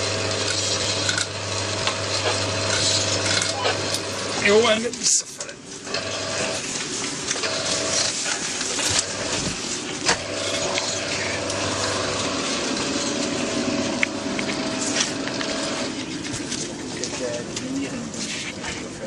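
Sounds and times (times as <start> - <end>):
winch mechanical whine: 0.0 - 19.0.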